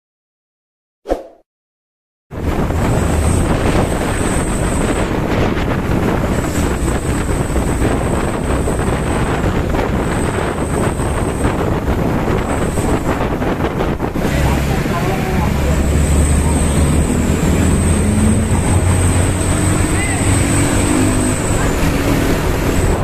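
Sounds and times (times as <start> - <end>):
road noise: 2.3 - 23.0
vehicle engine rumble: 2.3 - 23.0
wind buffeting microphone: 2.3 - 23.0.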